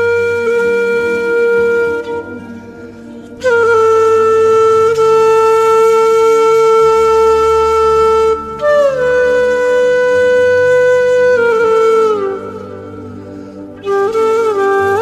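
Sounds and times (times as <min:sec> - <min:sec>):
flute-like wind instrument: 0:00.0 - 0:15.0.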